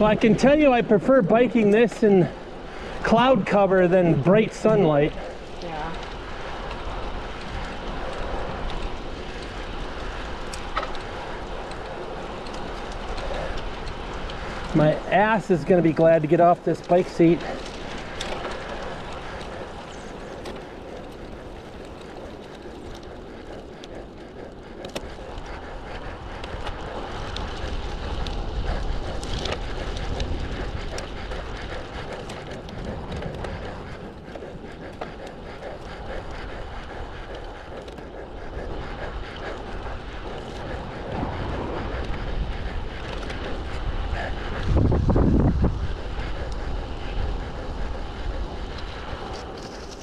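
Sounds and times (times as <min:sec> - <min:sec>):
bike tyres hissing on asphalt: 0:00.0 - 0:50.0
wind rumbling on microphone: 0:00.0 - 0:50.0.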